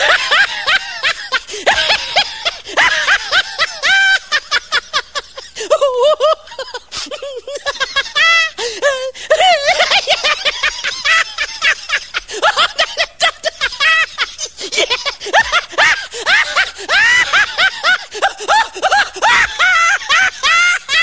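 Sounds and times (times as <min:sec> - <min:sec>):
high-pitched laughter: 0:00.0 - 0:21.0.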